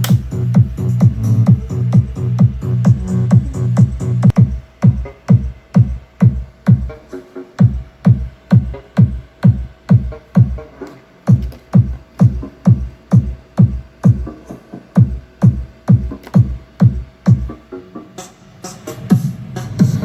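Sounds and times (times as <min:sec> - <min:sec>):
drum machine kick: 0:00.0 - 0:17.8, 0:18.9 - 0:20.0
electronic dance music: 0:00.0 - 0:20.0.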